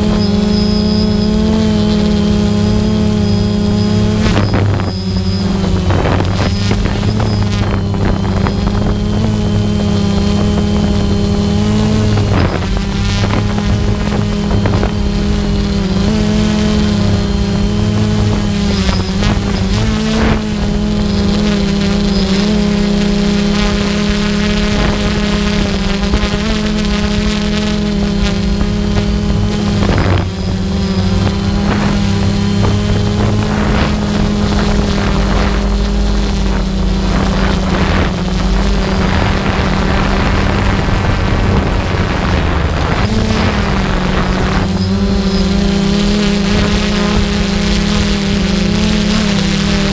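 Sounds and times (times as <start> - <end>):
small aircraft motor drone: 0.0 - 49.9
wind on microphone: 0.0 - 49.9.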